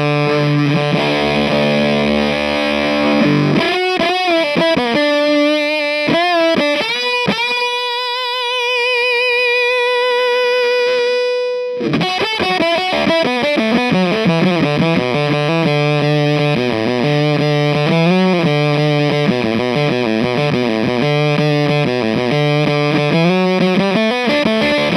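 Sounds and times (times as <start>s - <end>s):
fuzz electric guitar: 0.0s - 24.9s.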